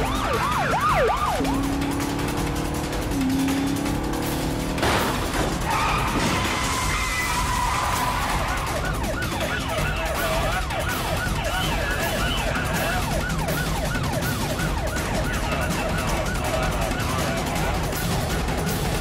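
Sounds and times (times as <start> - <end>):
siren wailing: 0.0 - 4.2, 5.6 - 19.0.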